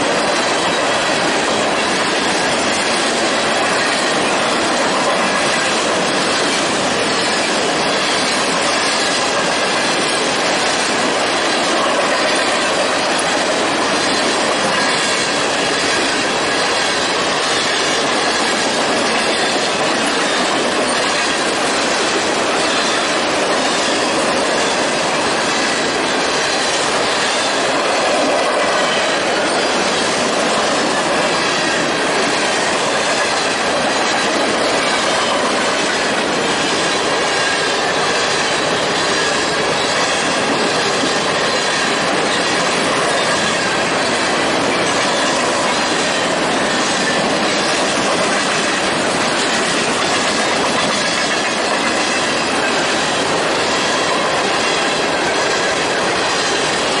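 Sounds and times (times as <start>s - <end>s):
train wheels rumbling and rattling: 0.0s - 57.0s.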